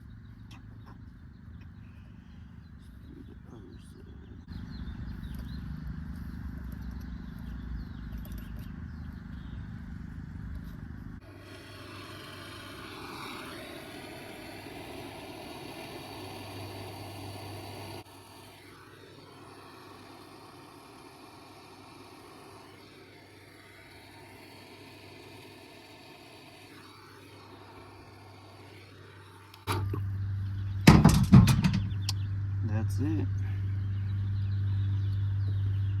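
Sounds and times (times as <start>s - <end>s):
machinery hum and rushing air: 1.8s - 35.1s.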